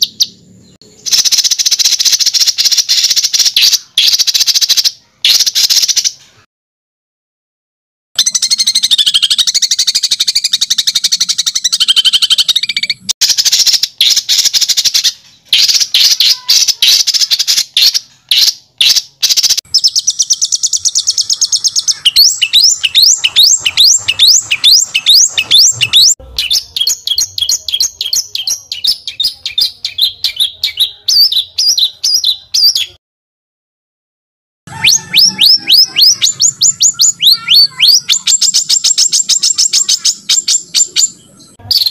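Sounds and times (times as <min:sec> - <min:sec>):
songbird chirps and trills: 0:00.0 - 0:06.5, 0:08.2 - 0:33.0, 0:34.7 - 0:41.9.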